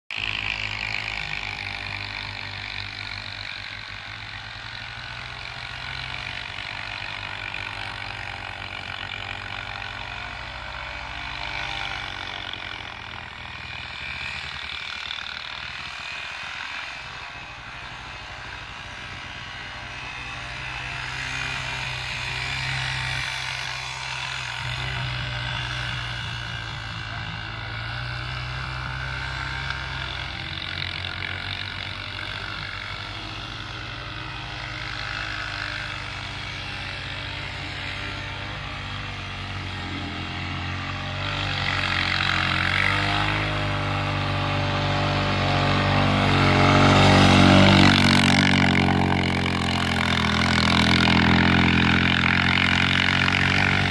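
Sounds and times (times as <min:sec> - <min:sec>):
small atv engines running: 0:00.1 - 0:53.9.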